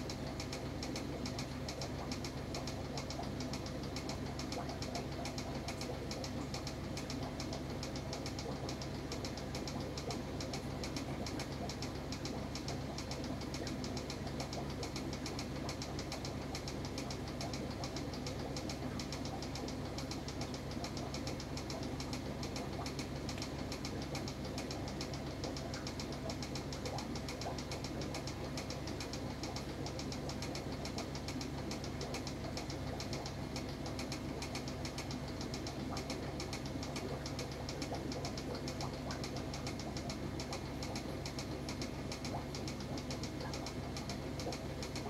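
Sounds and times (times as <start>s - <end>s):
aquarium pump humming: 0.0s - 45.0s.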